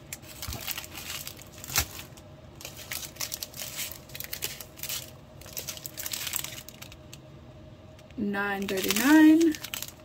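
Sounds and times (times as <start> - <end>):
plastic bags crinkling and rattling: 0.0 - 7.2, 8.5 - 10.0.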